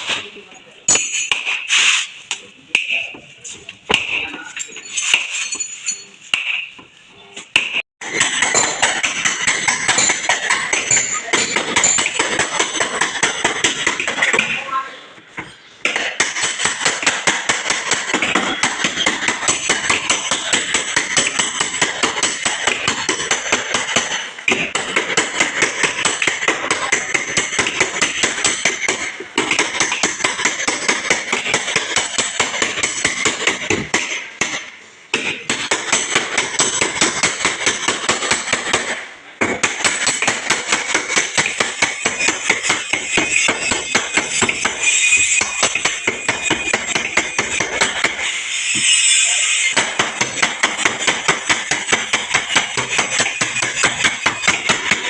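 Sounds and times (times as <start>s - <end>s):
hammer beating steel panels: 7.6s - 14.7s, 15.4s - 55.0s.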